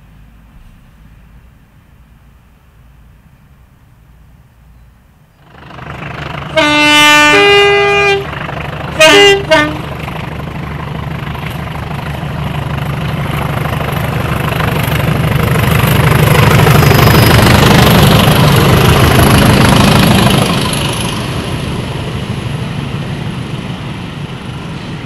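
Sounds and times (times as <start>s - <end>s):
diesel locomotive passing: 0.0s - 25.0s.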